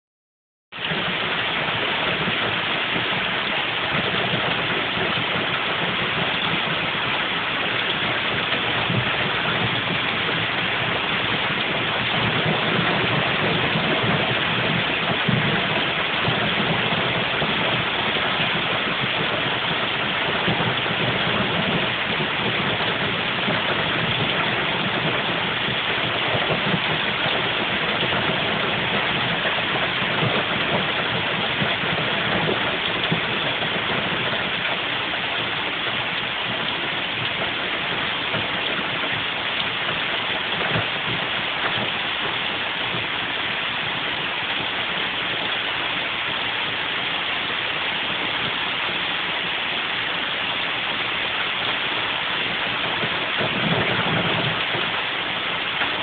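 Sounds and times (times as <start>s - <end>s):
heavy rain pouring: 0.7s - 56.0s.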